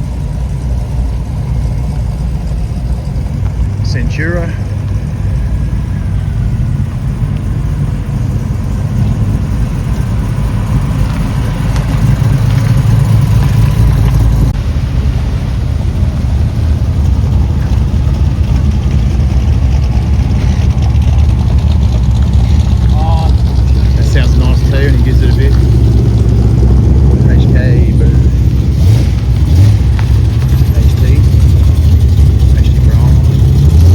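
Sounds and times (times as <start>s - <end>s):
cars driving slowly past: 0.0s - 33.9s.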